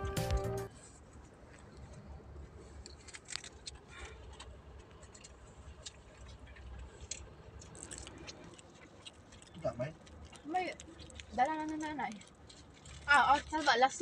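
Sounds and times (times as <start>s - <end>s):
small clicks and rustles: 0.7s - 14.0s.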